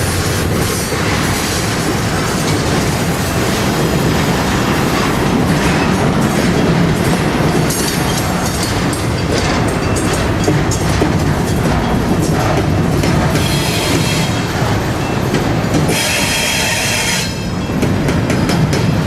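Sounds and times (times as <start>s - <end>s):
train rumbling past: 0.0s - 19.0s
wheels clicking over rail joints: 0.0s - 19.0s.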